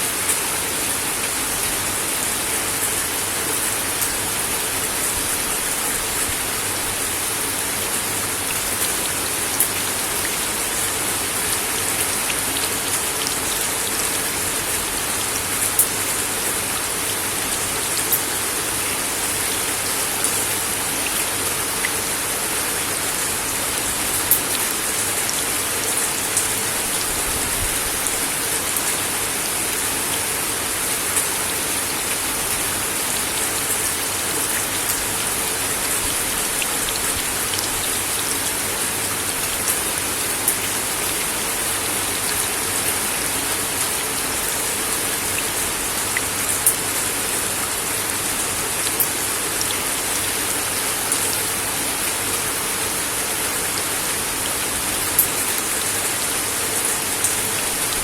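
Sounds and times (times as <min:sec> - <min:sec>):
rain on a wooden deck: 0:00.0 - 0:58.0.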